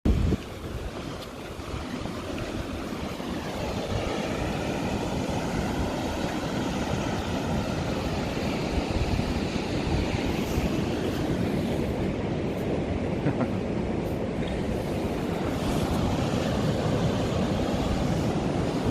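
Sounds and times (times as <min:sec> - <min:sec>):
wind rumbling on microphone: 0:00.0 - 0:18.9
surf breaking on a beach: 0:00.1 - 0:18.9.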